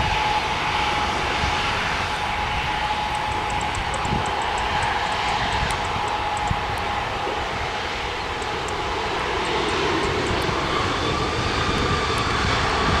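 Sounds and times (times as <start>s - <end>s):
turboprop engines whining: 0.0s - 13.0s.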